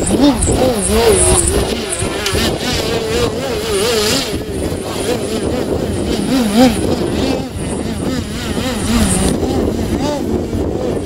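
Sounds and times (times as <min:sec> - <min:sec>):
model plane propeller drone: 0:00.0 - 0:11.0.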